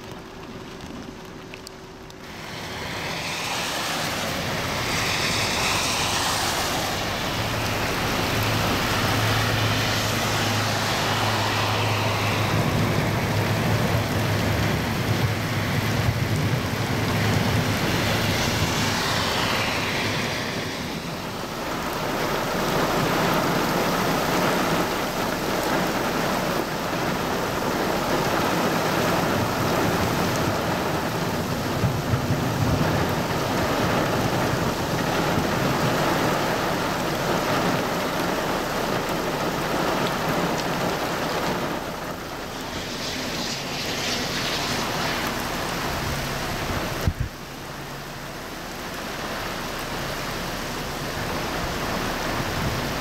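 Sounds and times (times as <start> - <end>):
heavy rain on road: 0.0 - 53.0
tyres hissing through water: 2.2 - 53.0.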